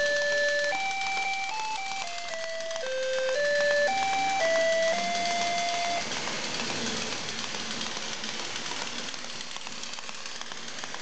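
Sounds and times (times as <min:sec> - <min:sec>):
toy train motor whirring rattle: 0:00.0 - 0:11.0.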